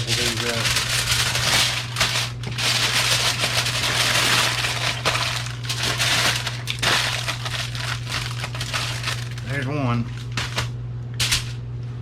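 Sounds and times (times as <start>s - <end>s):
aluminium foil crinkling: 0.0s - 10.7s.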